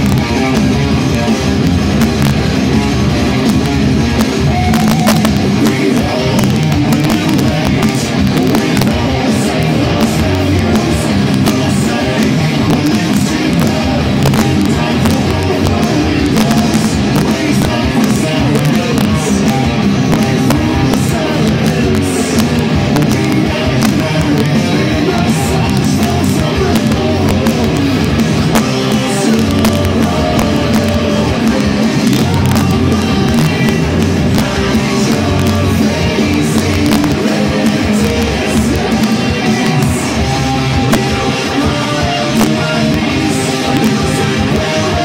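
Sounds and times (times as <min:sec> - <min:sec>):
heavy metal electric guitar riffing: 0:00.0 - 0:45.0.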